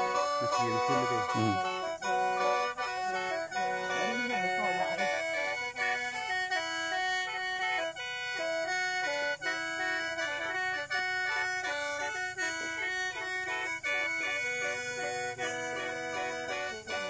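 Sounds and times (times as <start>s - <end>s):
mouth organ playing chords: 0.0s - 17.0s.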